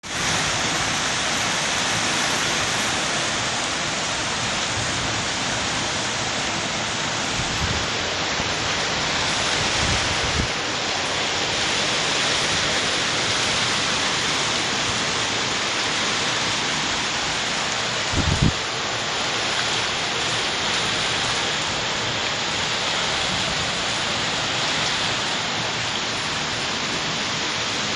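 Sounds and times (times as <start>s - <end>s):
heavy rain pouring: 0.0s - 27.9s
strong wind: 0.0s - 27.9s.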